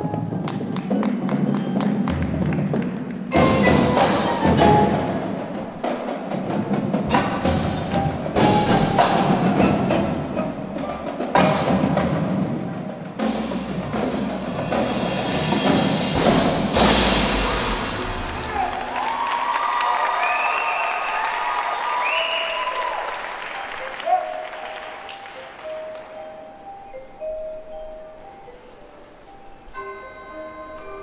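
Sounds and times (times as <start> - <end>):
marimbas and mallet keyboards: 0.0 - 17.8, 23.4 - 31.0
marching drum line: 0.0 - 25.1.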